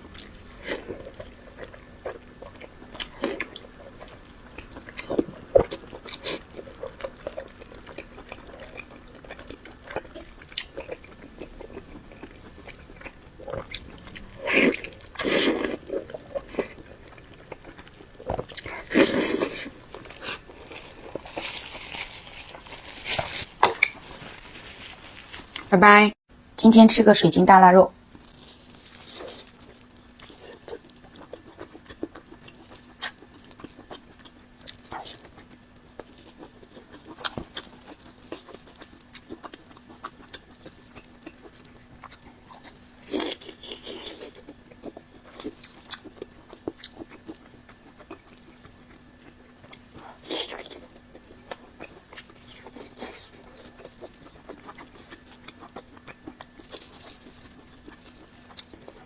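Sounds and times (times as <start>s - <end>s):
chewing and crunching bites: 0.0s - 25.7s, 28.0s - 59.0s
faint steady hum: 0.0s - 59.0s.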